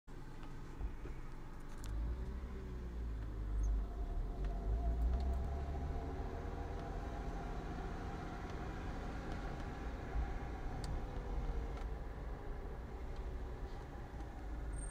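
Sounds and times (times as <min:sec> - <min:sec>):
engine and road rumble: 0:00.1 - 0:14.9.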